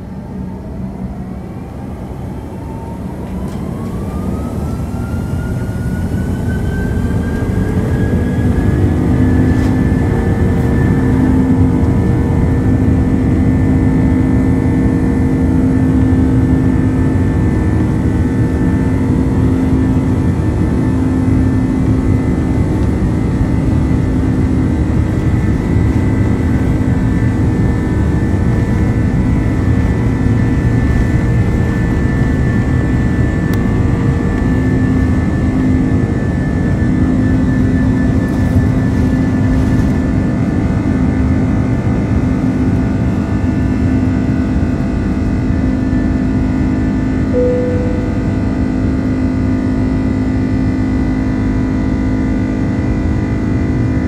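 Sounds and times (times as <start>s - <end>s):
jet engine whine: 0.0s - 54.0s
low engine and rolling noise: 0.0s - 54.0s.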